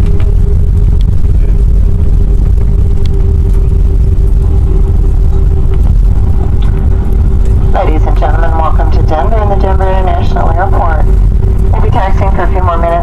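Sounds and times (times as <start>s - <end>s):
airplane cabin rumble: 0.0s - 13.0s
steady hum: 0.0s - 13.0s.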